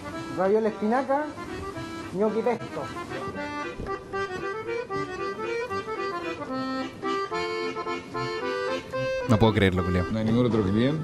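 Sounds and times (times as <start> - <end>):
background music melody: 0.0 - 11.0.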